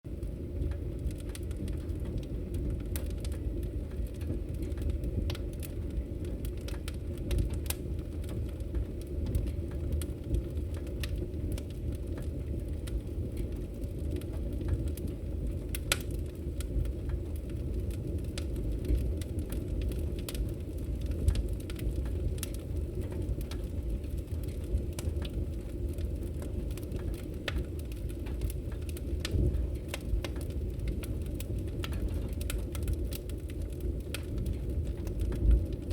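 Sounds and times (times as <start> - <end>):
wood fire crackling and popping: 0.1 - 35.9.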